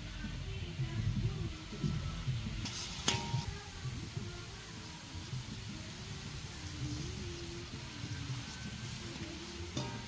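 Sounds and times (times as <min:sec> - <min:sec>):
sauce sizzling in a wok: 0:00.0 - 0:10.0
soft background music: 0:00.0 - 0:10.0.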